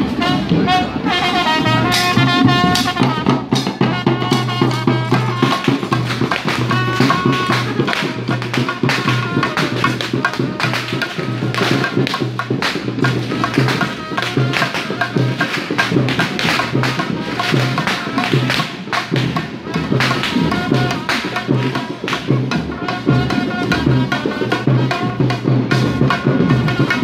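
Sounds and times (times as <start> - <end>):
frame drums beating: 0.0 - 27.0
wind instrument melody: 0.0 - 27.0.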